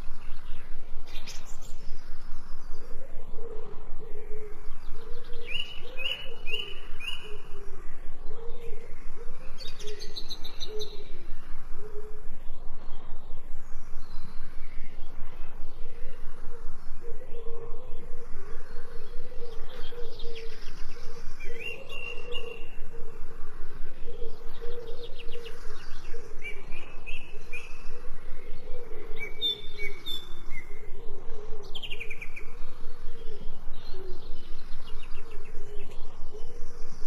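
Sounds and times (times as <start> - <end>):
low pulsing background: 0.0 - 37.0
songbirds chirping and trilling: 0.0 - 37.0.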